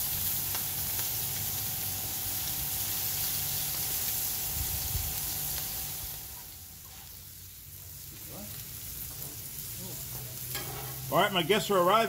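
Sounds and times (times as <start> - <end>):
meat sizzling on a griddle: 0.0 - 12.0.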